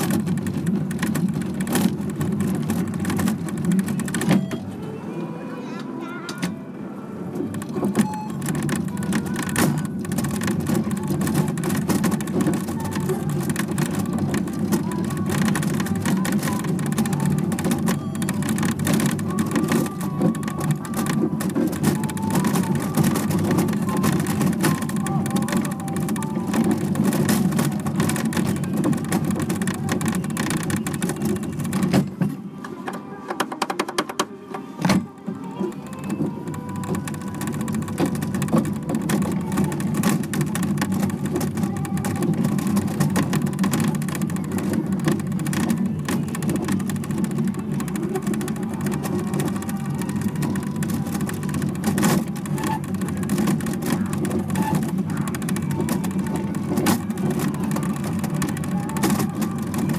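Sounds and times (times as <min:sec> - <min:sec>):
small clicks and rattles: 0:00.0 - 0:04.6, 0:07.4 - 0:34.3, 0:34.9 - 0:59.9
electric ride-on car humming: 0:00.0 - 0:59.9.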